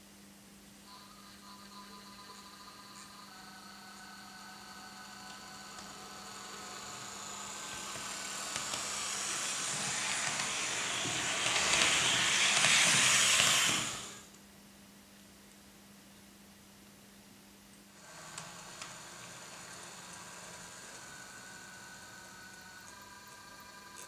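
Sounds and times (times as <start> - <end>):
model locomotive whirring hiss: 0.9 - 14.3, 18.0 - 24.0.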